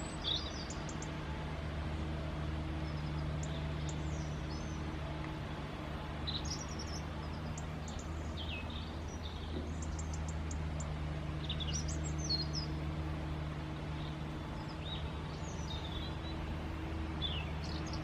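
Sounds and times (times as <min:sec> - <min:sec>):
low background hum: 0:00.0 - 0:18.0
small birds chirping: 0:00.0 - 0:18.0.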